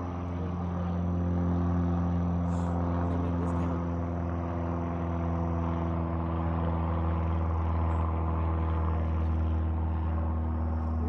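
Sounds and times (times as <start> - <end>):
airplane engine droning: 0.0 - 11.0.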